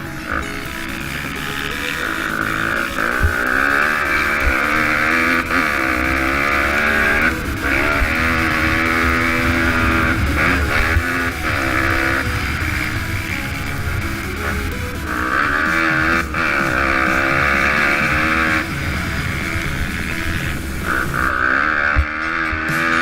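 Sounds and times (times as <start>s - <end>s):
small motorcycle engine revving: 0.0s - 23.0s.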